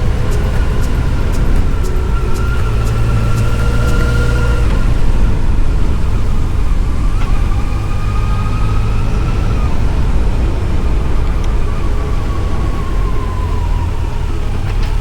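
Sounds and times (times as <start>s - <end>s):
motorcycle engine running: 0.0s - 13.2s
faint whine: 0.0s - 15.0s
wind noise: 0.0s - 15.0s.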